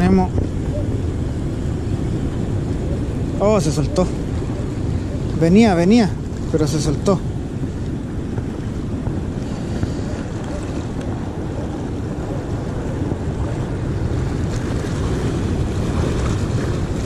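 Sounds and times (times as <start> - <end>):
sea surf breaking on shore: 0.0 - 17.0
wind buffeting microphone: 0.0 - 17.0.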